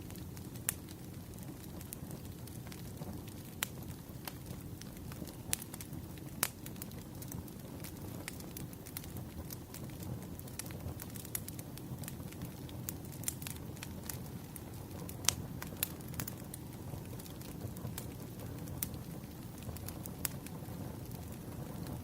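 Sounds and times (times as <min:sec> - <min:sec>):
campfire flames rumbling: 0:00.0 - 0:22.0
fire crackling and popping: 0:00.0 - 0:22.0.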